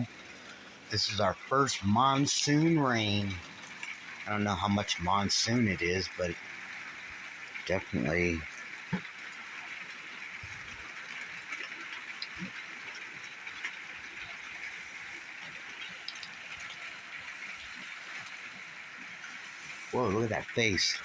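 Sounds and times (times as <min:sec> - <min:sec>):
faint raindrop ticks: 0:00.0 - 0:19.8
rain falling: 0:00.0 - 0:21.0.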